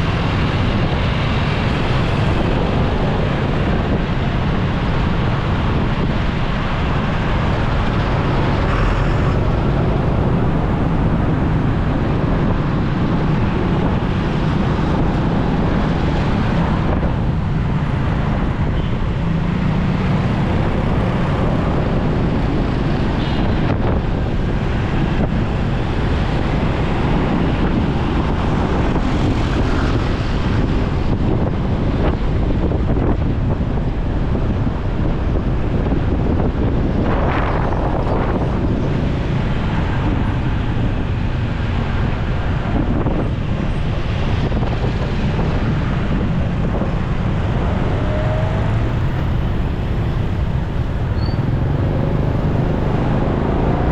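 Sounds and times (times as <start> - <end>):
motorcycle engine drone: 0.0 - 53.9
wind rush on microphone: 0.0 - 53.9.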